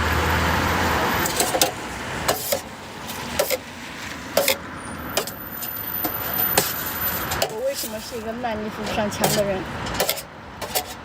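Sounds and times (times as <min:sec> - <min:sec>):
road vehicle passing: 0:00.0 - 0:11.0.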